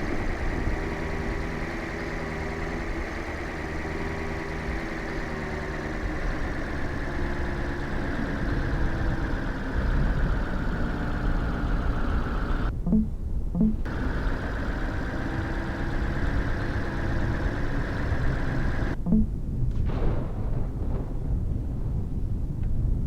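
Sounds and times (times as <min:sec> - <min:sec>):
vehicle engine rumbling: 0:00.0 - 0:19.5.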